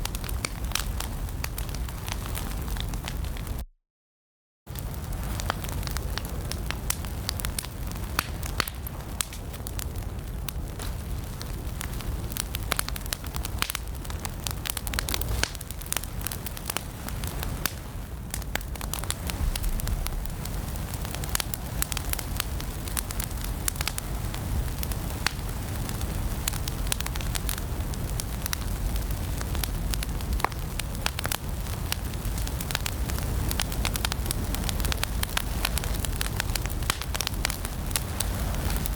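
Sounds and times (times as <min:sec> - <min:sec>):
fireplace fire crackling and popping: 0:00.0 - 0:03.6, 0:04.7 - 0:38.9.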